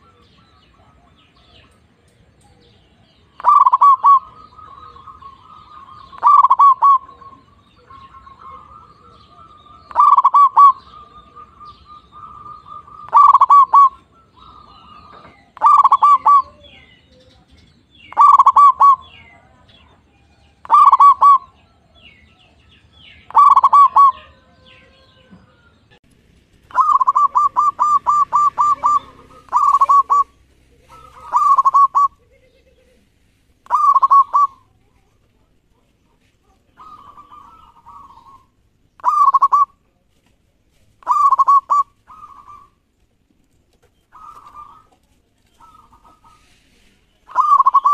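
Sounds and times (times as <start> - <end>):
dove cooing song: 0.0 - 26.0, 26.6 - 39.9, 40.9 - 42.9, 43.8 - 47.9.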